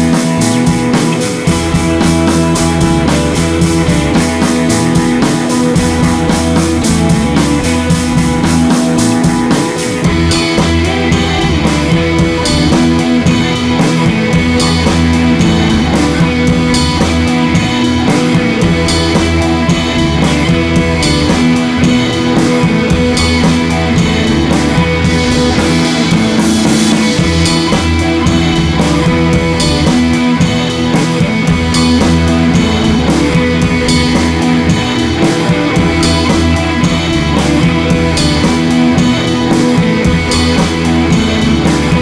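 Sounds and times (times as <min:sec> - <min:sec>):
rock music with guitar: 0:00.0 - 0:42.0
steady drum beat: 0:00.0 - 0:42.0.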